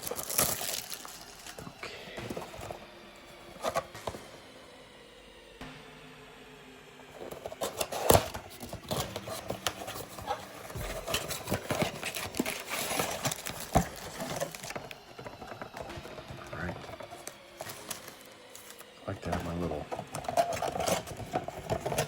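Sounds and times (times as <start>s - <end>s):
cardboard box crinkling and rustling: 0.0s - 2.8s, 3.4s - 4.2s, 7.2s - 22.0s.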